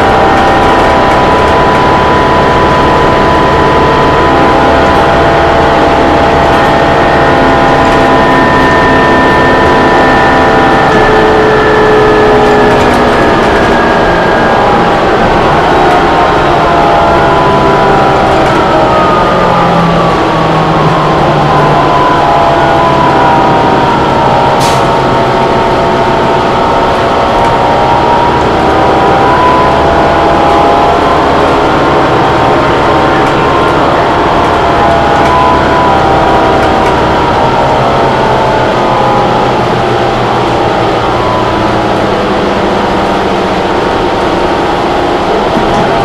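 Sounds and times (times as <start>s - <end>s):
bus diesel engine running: 0.0s - 46.0s
steady whine: 0.0s - 46.0s.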